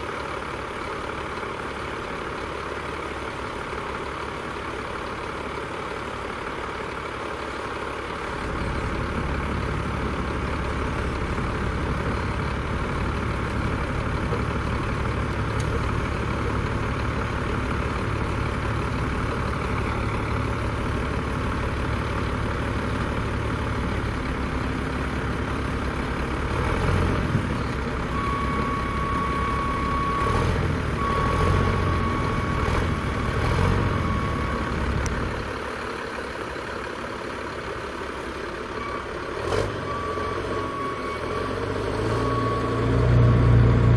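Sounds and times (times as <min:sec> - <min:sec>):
diesel engines under load: 0:00.0 - 0:43.9.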